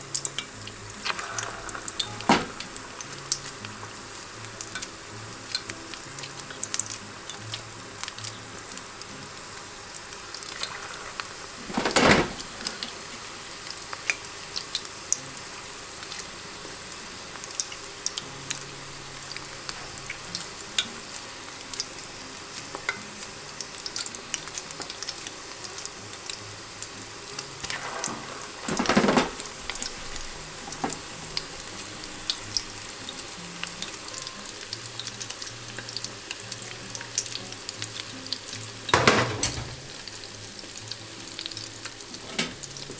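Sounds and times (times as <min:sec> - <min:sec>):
meatballs sizzling in hot fat: 0:00.0 - 0:42.9.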